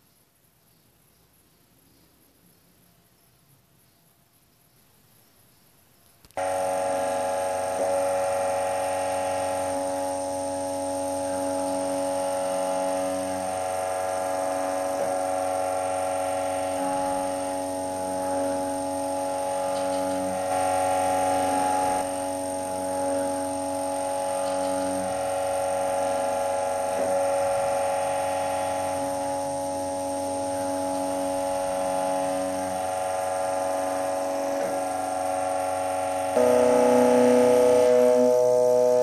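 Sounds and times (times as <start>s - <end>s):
testing machine motor whine: 6.4s - 39.0s.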